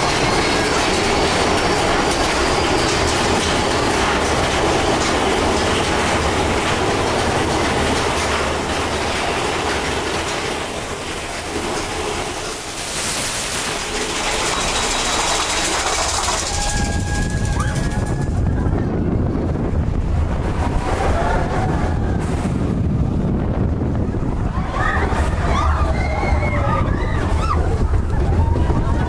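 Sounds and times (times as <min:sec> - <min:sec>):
roller coaster wheels rumbling: 0:00.0 - 0:29.0.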